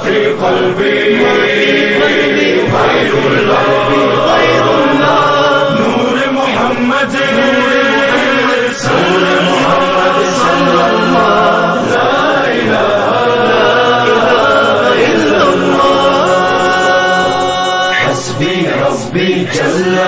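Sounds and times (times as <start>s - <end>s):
voices holding long notes: 0.0s - 20.0s.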